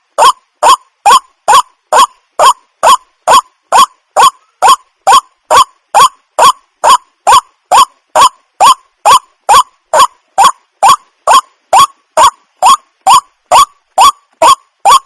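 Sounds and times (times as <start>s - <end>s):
waterhen calling: 0.2s - 15.0s.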